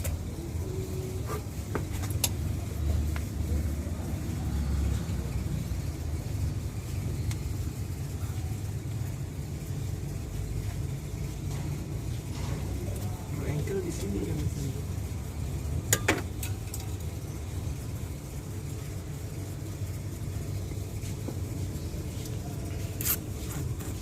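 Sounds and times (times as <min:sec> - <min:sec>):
low vehicle rumble: 0:00.0 - 0:24.0.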